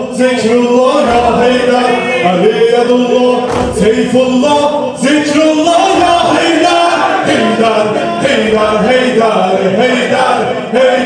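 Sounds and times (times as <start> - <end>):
men singing unaccompanied lament: 0.0 - 11.0.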